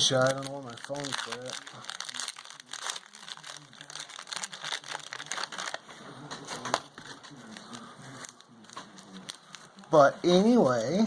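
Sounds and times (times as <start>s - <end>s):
packaging crinkling and rustling: 0.0s - 9.9s.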